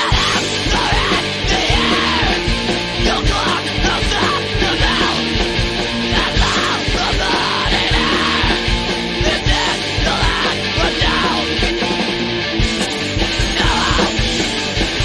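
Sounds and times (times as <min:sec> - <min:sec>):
shouted vocals: 0:00.0 - 0:05.4, 0:06.0 - 0:12.0, 0:13.4 - 0:14.3
distorted electric guitars: 0:00.0 - 0:15.0
fast driving drums: 0:00.0 - 0:15.0.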